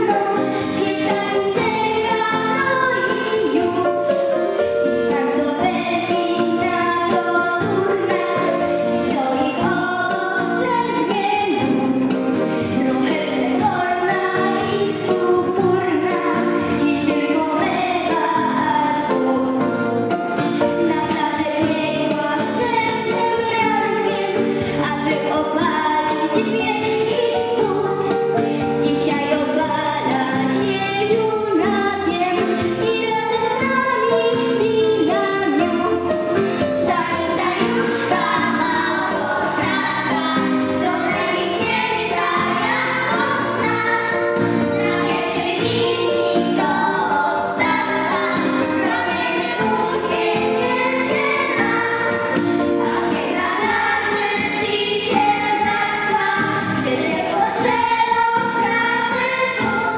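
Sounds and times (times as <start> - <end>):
children singing together: 0.0 - 59.9
instrumental accompaniment: 0.0 - 59.9.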